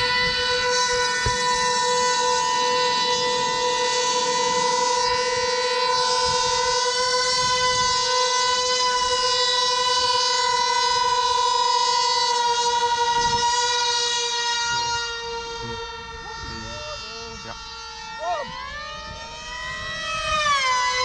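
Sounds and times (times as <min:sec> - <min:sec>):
model plane engines whining: 0:00.0 - 0:21.0.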